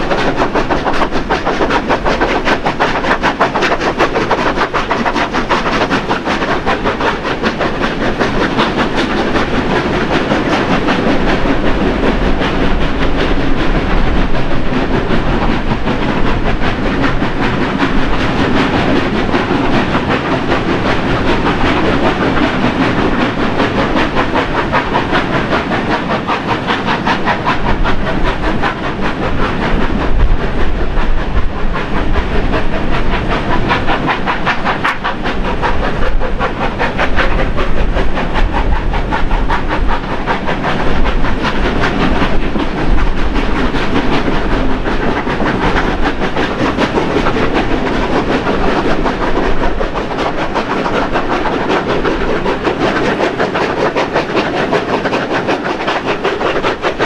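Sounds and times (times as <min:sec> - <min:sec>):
steam locomotive exhaust beats: 0:00.0 - 0:57.0
wheel and rail noise: 0:00.0 - 0:57.0
wind buffeting microphone: 0:00.0 - 0:57.0.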